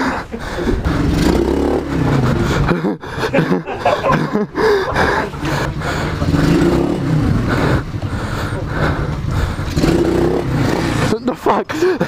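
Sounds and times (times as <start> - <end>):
motorcycle engine revving: 0.7 - 11.6.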